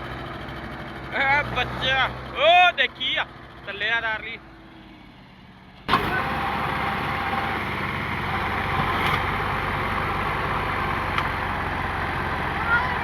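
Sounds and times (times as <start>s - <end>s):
tractor engine running: 0.0s - 4.5s, 5.8s - 13.0s.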